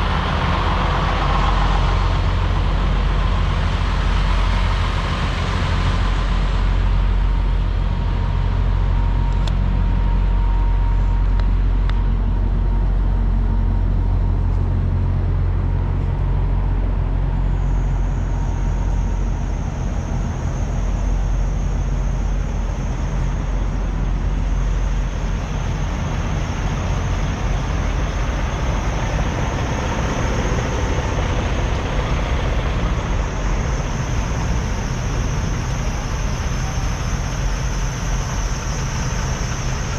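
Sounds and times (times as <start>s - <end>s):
thin high-pitched whine: 0.0s - 39.9s
truck engines idling: 0.0s - 39.9s.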